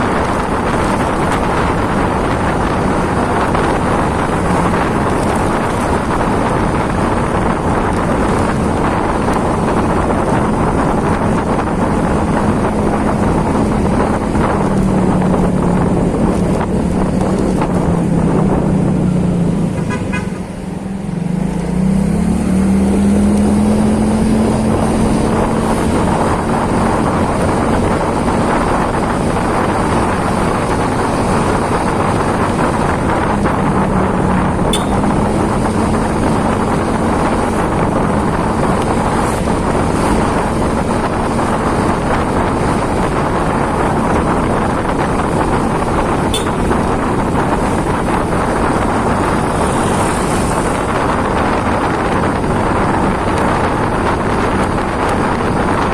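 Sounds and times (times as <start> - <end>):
loud continuous rushing noise: 0.0 - 55.9.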